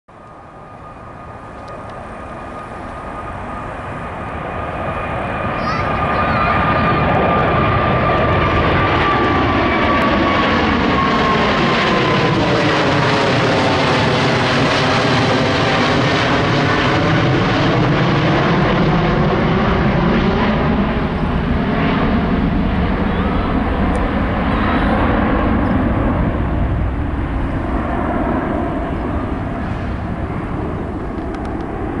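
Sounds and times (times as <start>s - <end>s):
jet airliner roar: 0.1s - 32.0s.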